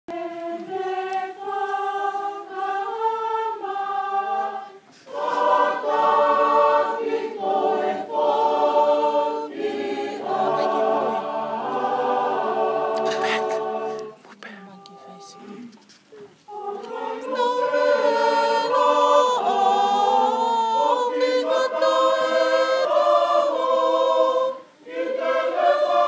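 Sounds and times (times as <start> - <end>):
group singing unaccompanied: 0.1 - 15.7, 16.4 - 26.0.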